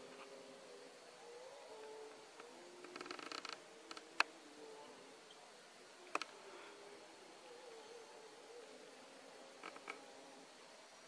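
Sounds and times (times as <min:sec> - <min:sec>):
distant low bird calls: 0:00.0 - 0:11.0.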